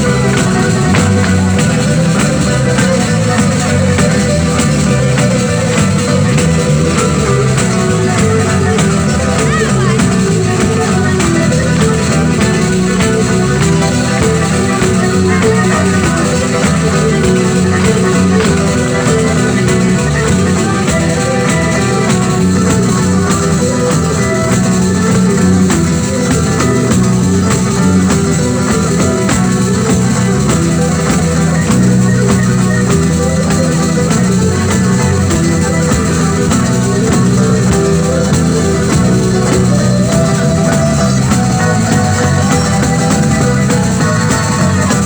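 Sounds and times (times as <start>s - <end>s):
percussion: 0.0s - 45.0s
plucked guitar: 0.0s - 45.0s.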